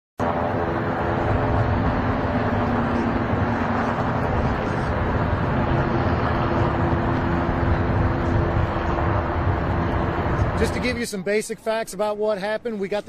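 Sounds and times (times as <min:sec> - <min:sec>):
constant low hum: 0:00.2 - 0:13.0
street traffic rumble: 0:00.2 - 0:13.0.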